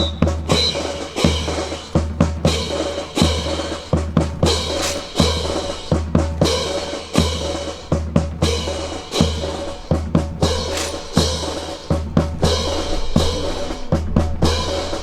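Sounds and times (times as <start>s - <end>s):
rifles slapped and grounded: 0.0s - 13.2s.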